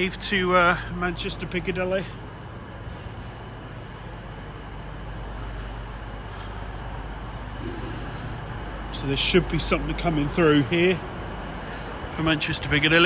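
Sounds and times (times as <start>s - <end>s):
low engine-like hum: 0.0s - 13.0s
railway platform background noise: 0.0s - 13.0s.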